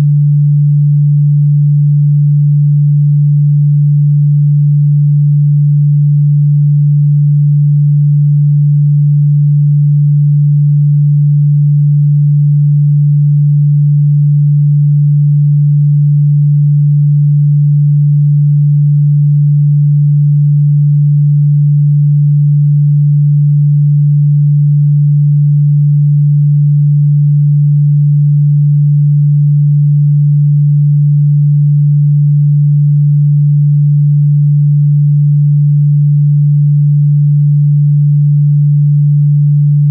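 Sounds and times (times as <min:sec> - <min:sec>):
low sine tone: 0:00.0 - 0:39.9.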